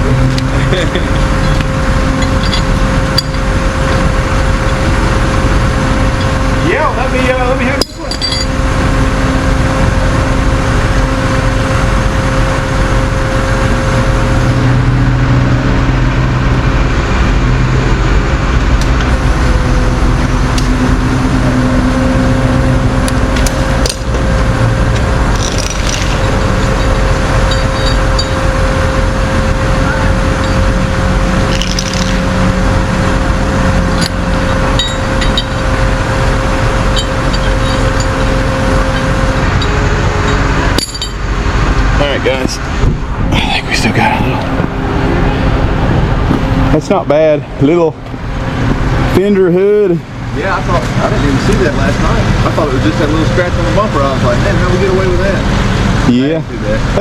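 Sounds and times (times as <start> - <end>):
tow truck engine running: 0.0 - 57.0.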